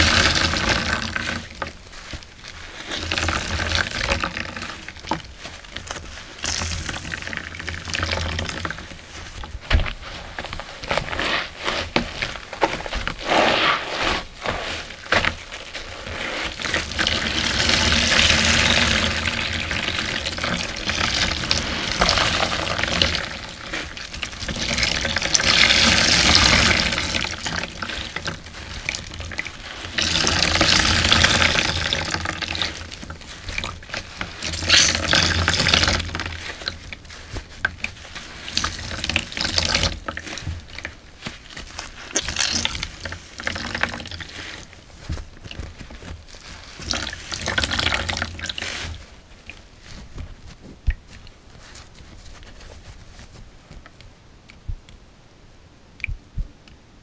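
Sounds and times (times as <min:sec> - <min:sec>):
sponge wet squelches: 0:00.0 - 0:55.0.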